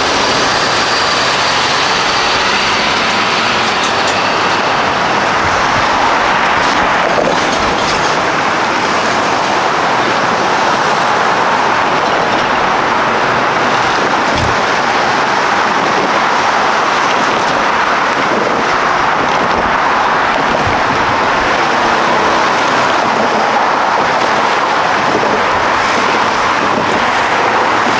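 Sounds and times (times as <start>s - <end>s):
road traffic tyres and engines: 0.0s - 27.9s.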